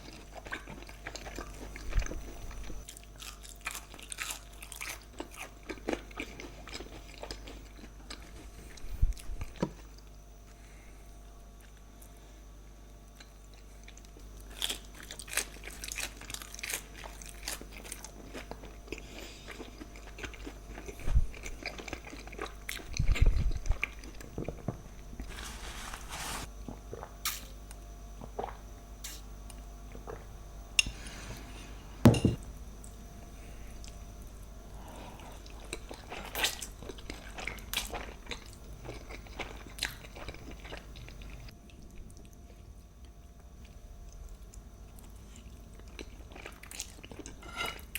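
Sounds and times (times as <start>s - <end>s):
crunchy chewing: 0.0s - 10.6s, 13.1s - 27.4s, 33.7s - 47.9s.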